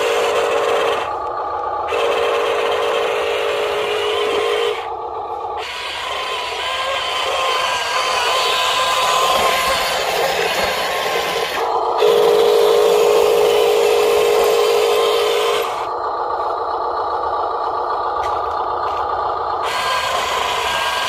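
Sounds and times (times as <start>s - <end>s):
toy truck electric motor whining: 0.0s - 16.2s, 19.5s - 21.0s.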